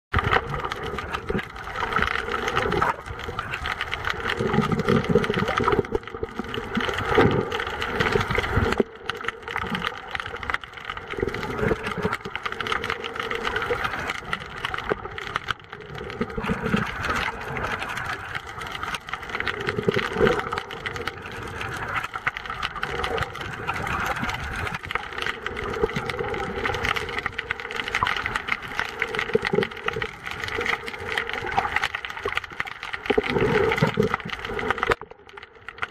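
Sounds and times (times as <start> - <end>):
underwater crackling hiss: 0.2 - 35.9.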